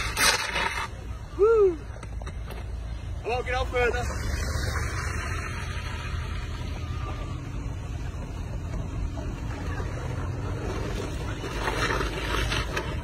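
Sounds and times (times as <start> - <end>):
vehicle engine low rumble: 0.0 - 13.0.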